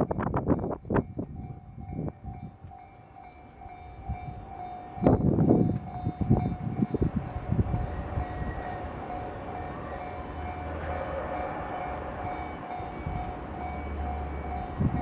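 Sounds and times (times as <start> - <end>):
train wheels clattering over rails: 1.2 - 15.0
level crossing bell ringing: 1.7 - 15.0.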